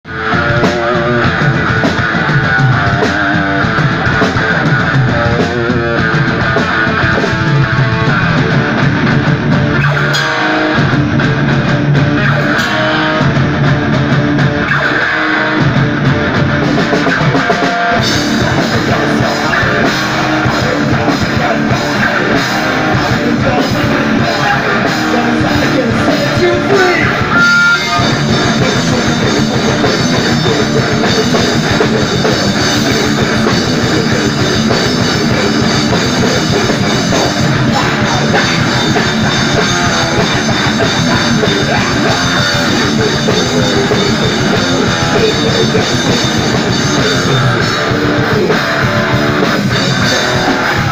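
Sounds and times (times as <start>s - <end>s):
bass guitar: 0.0s - 50.9s
drum kit: 0.0s - 50.9s
electric guitars: 0.0s - 50.9s.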